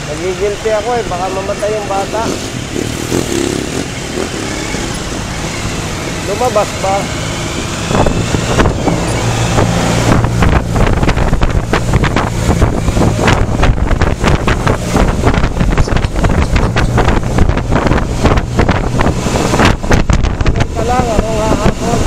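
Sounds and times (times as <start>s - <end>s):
motorcycle engine hum: 0.0s - 22.0s
wind buffeting microphone: 0.0s - 22.0s.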